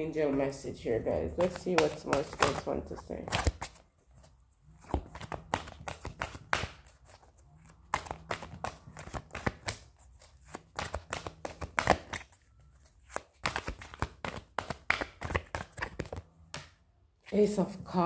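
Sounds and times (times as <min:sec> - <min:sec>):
cards being shuffled: 0:01.2 - 0:17.5.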